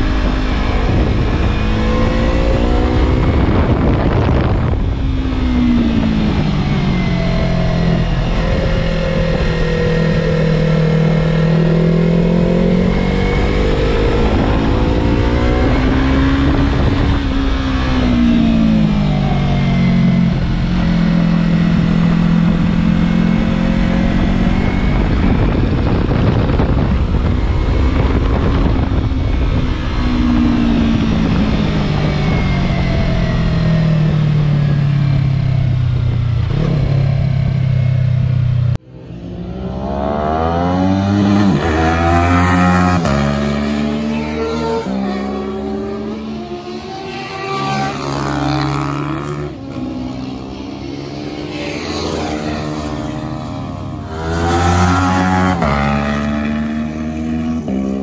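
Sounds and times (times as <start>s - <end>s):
motorcycle engine accelerating: 0.0s - 58.0s
wind rush on microphone: 0.0s - 58.0s.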